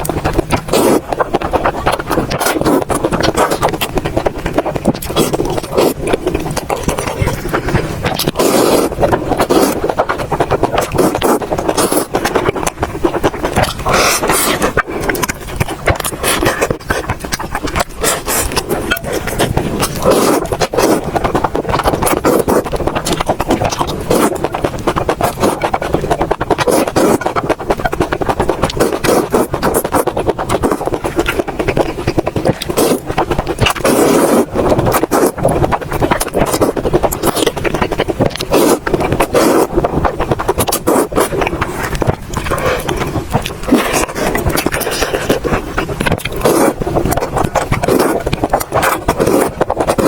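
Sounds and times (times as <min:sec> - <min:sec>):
wet chewing: 0:00.0 - 0:50.0.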